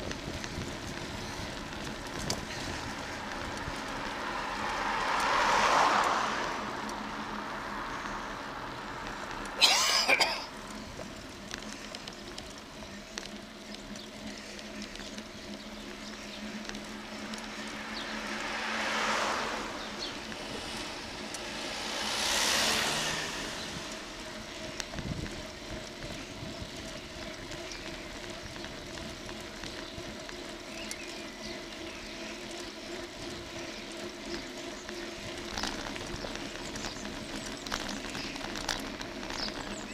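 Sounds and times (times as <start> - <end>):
cars passing: 0.0 - 39.9
wind and road noise: 0.0 - 39.9.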